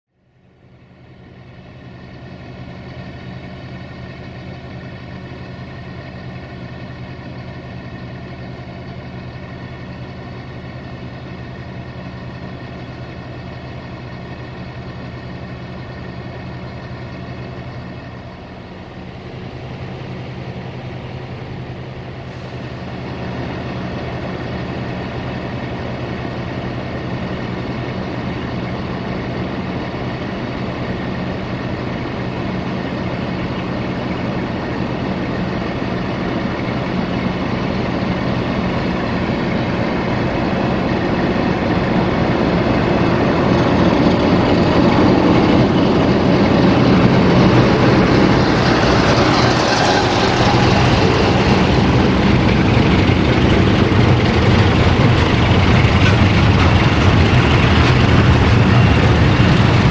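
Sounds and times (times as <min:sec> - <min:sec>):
diesel locomotive engine idling: 0:00.2 - 0:59.9.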